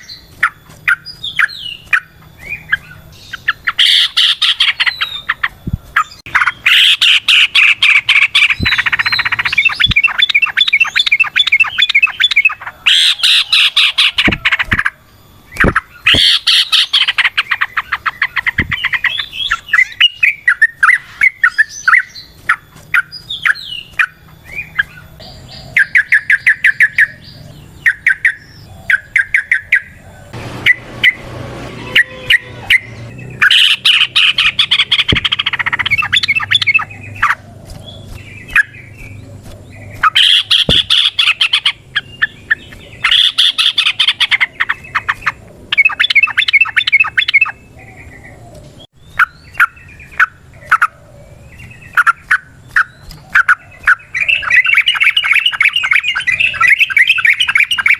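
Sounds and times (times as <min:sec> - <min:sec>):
bulbul singing: 0:00.0 - 0:57.9.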